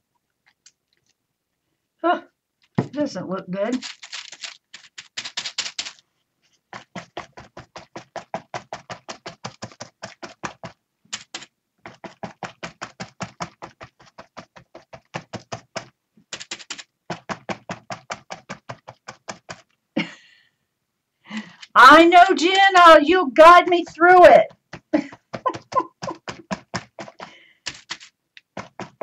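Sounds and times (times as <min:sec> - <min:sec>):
sponge dabbing paint on paper: 0:02.8 - 0:19.7, 0:21.9 - 0:29.0.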